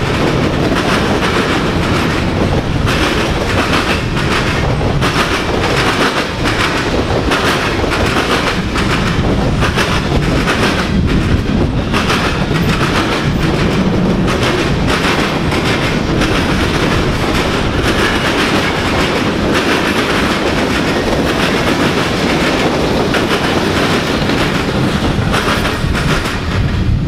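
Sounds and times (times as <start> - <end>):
freight train wheels clattering: 0.0 - 27.0.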